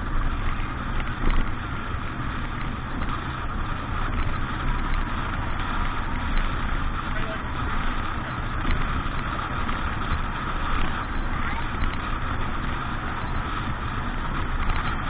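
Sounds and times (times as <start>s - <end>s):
motorboat engine rumble: 0.0s - 15.0s.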